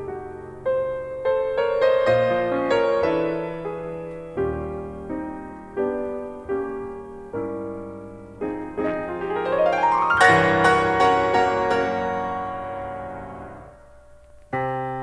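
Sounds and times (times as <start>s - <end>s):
piano chords: 0.0s - 15.0s
rising piano run: 0.0s - 15.0s.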